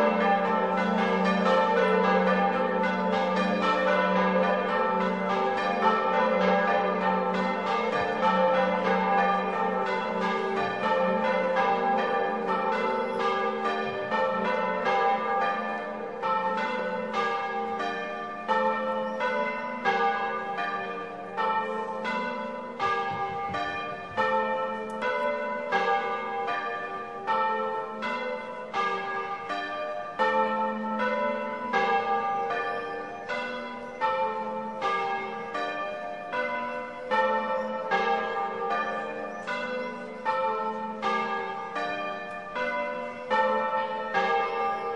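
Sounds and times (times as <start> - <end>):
church bells pealing: 0.0 - 44.9.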